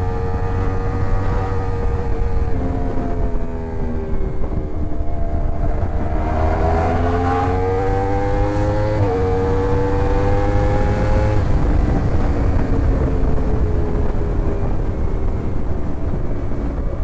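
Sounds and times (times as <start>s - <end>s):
motorcycle engine accelerating: 0.0s - 17.0s
wind rumble on microphone: 0.0s - 17.0s.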